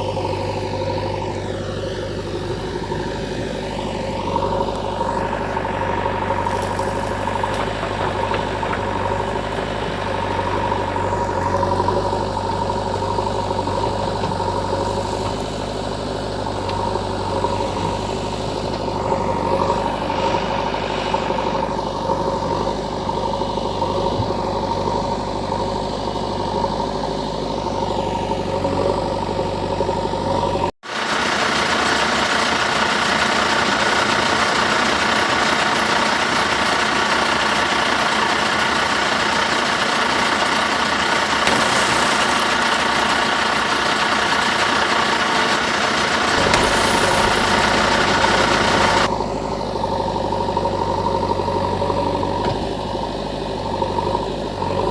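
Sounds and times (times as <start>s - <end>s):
engine idling: 0.0s - 54.9s
hissy engine sound: 0.0s - 54.9s.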